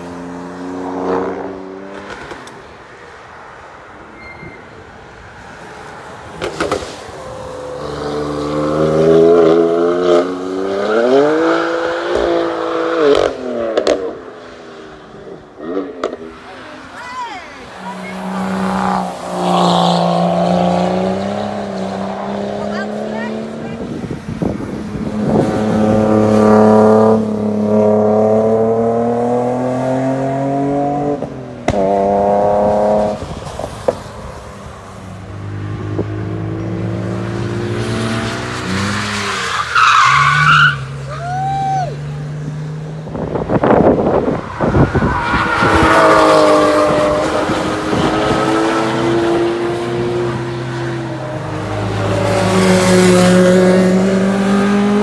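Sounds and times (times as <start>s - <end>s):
car engines revving past: 0.0s - 55.0s.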